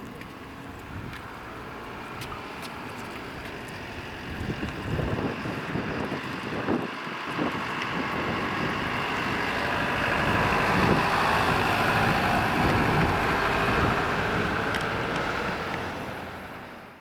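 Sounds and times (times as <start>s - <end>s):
bus engine passing: 0.0s - 17.0s.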